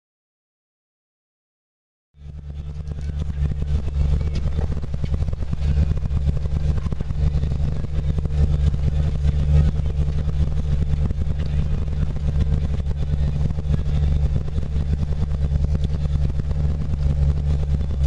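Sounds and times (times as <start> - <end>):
engine drone with rattle: 2.2 - 18.0.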